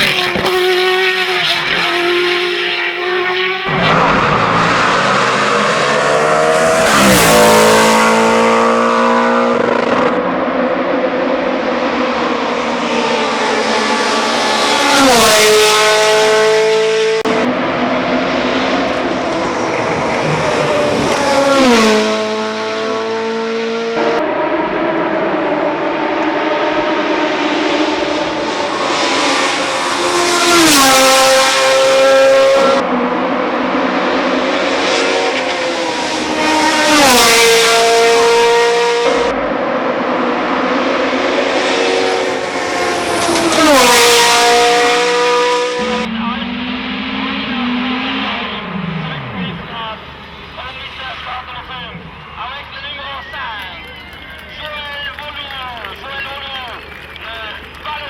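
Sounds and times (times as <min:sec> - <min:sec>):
race car engines passing by: 0:00.0 - 0:58.0.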